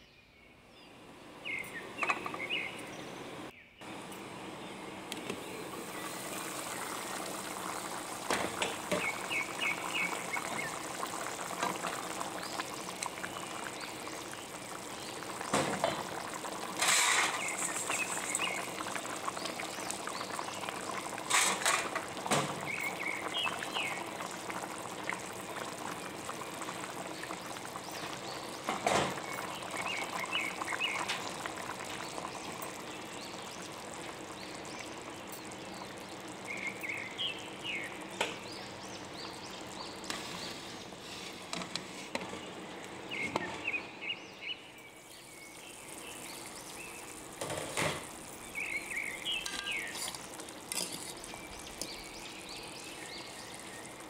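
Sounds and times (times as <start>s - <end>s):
stew bubbling in a pan: 1.4s - 54.0s.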